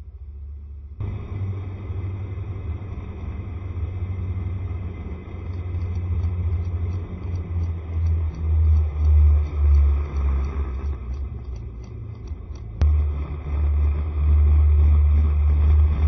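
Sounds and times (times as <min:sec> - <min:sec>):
wind rumble on microphone: 0:00.0 - 0:16.0
scooter road and engine noise: 0:01.0 - 0:16.0.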